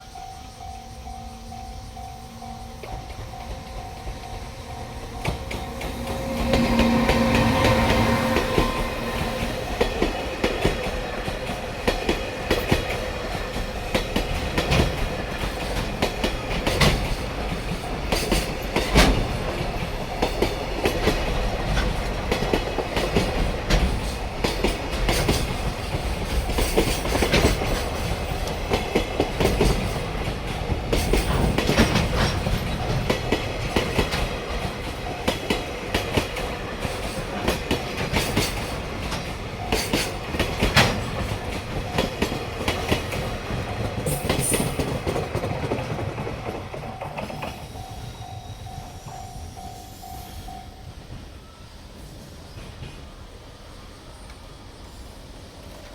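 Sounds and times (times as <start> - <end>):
steady warning tones: 0.0 - 51.7
freight train passing: 0.0 - 55.9
wheels clacking over rail joints: 0.5 - 48.2.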